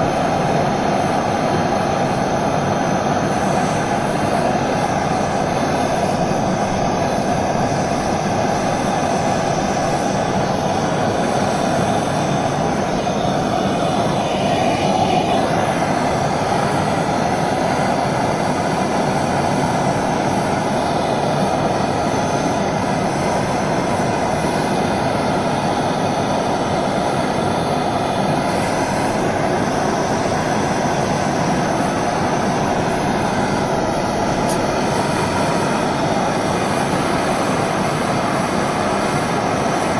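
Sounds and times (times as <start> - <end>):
gas torch hissing: 0.0 - 39.9.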